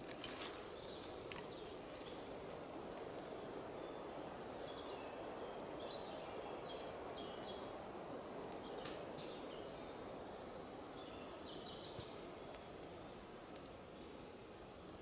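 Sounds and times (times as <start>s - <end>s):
steady rushing forest noise: 0.0s - 15.0s.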